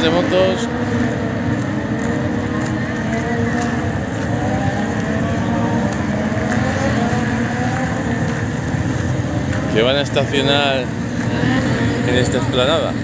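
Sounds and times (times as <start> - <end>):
motorcycle engines running slowly: 0.0 - 13.0.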